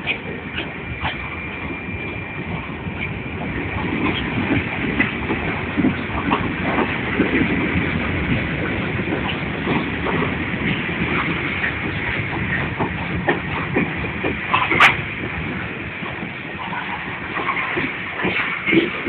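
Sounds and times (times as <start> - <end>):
clacks and knocks of rail cars: 0.0 - 19.0
train wheels rumbling on rails: 0.0 - 19.0.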